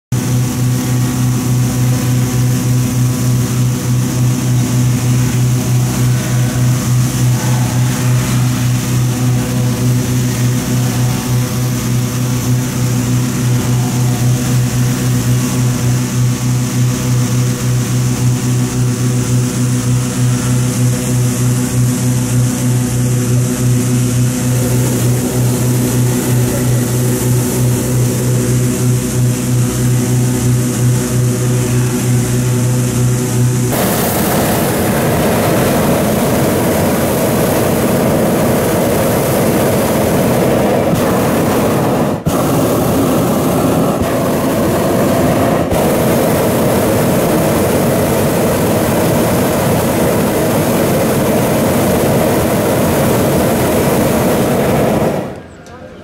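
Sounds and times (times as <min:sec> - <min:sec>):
inflator fans humming: 0:00.1 - 0:56.0
propane burners hissing: 0:00.1 - 0:56.0.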